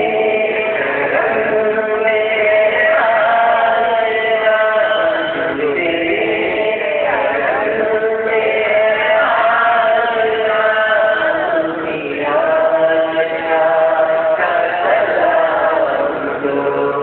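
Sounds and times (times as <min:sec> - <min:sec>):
man singing through microphone: 0:00.0 - 0:17.0.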